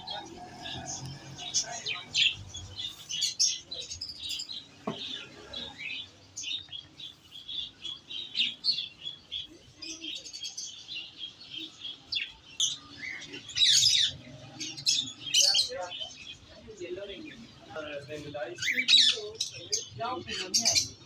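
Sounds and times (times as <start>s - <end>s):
parrots chattering: 0.0s - 16.5s, 18.5s - 21.0s.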